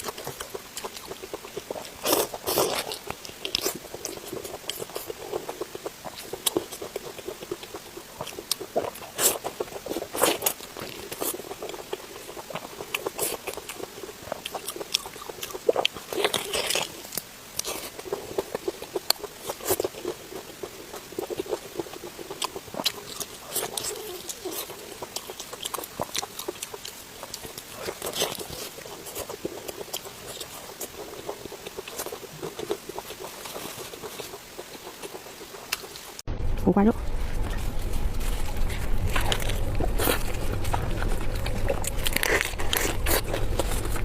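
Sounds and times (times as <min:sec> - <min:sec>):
person biting and chewing: 0:00.0 - 0:36.2, 0:37.4 - 0:44.0.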